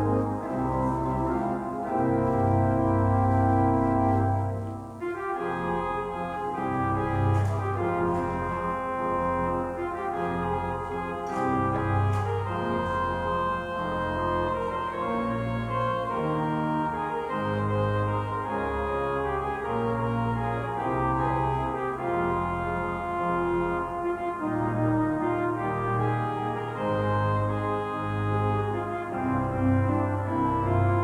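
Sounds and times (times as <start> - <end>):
organ music: 0.0 - 31.0.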